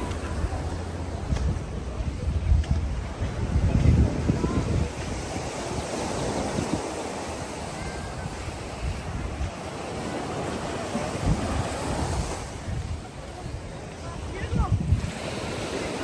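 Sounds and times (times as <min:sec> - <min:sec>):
ocean waves washing onto beach: 0:00.0 - 0:16.0
wind buffeting microphone: 0:00.0 - 0:16.0.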